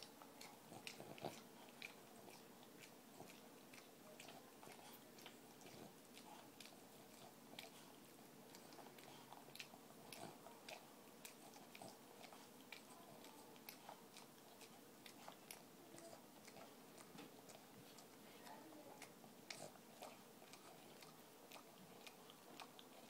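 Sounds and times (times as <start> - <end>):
dog licking wet clicks: 0.0 - 23.0.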